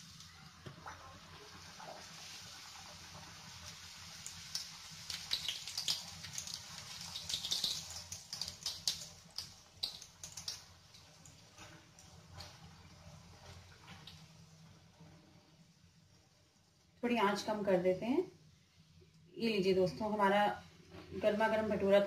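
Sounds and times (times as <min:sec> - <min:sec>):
oil sizzling with crackling and popping: 0:00.0 - 0:22.0.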